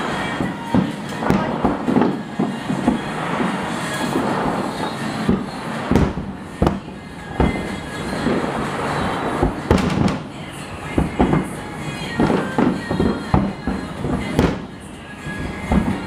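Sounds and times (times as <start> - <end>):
fireworks booming: 0.0 - 16.0
steady rushing noise: 0.0 - 16.0.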